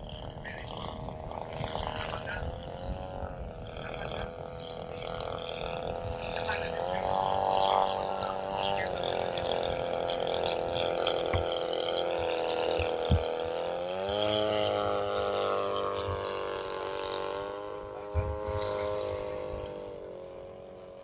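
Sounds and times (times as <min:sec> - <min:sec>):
model plane engine: 0:00.0 - 0:21.0.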